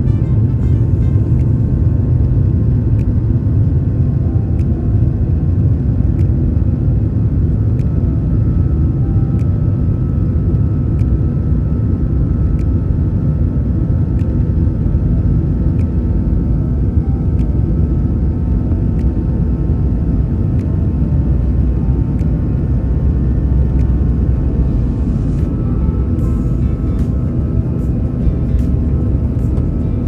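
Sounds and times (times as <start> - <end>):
vehicle rumble from inside cabin: 0.0 - 30.0.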